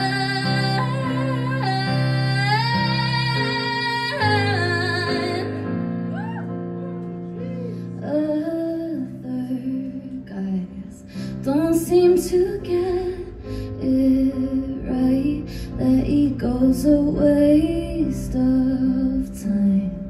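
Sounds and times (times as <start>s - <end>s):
woman singing: 0.0s - 6.0s, 7.8s - 20.0s.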